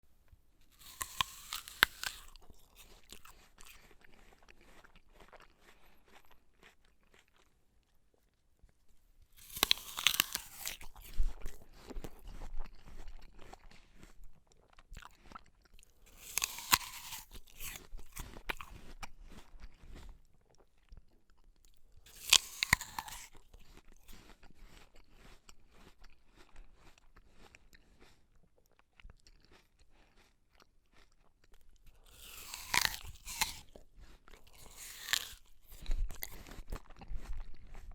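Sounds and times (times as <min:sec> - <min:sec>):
quieter chewing: 0:00.2 - 0:37.9
apple bite crunch: 0:00.6 - 0:07.5, 0:09.3 - 0:37.9.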